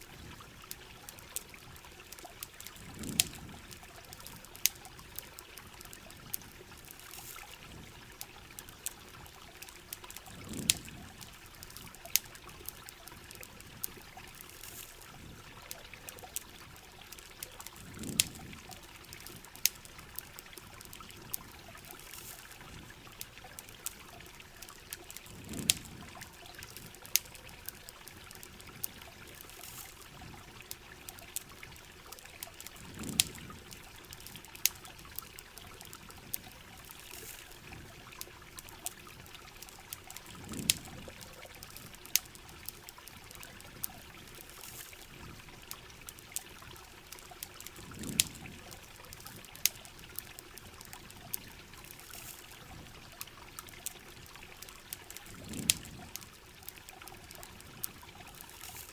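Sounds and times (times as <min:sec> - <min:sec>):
campfire crackling: 0:00.0 - 0:58.9
steady rain: 0:00.0 - 0:58.9
trickling water: 0:00.0 - 0:58.9.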